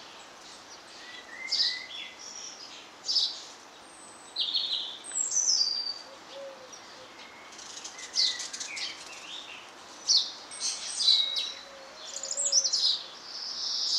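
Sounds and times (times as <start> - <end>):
faint outdoor hiss: 0.0 - 13.9
songbirds chirping and whistling: 0.0 - 13.9.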